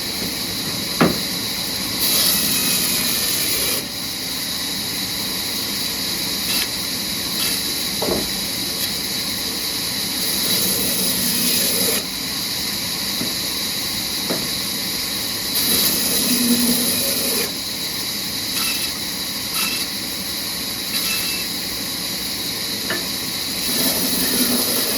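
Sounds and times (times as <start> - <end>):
sawmill machinery hissing: 0.0 - 24.9.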